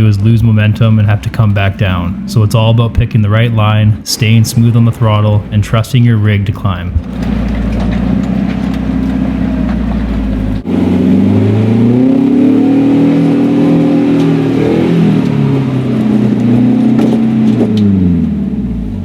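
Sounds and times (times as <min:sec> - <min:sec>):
off-road vehicle engine under load: 0:00.0 - 0:19.0.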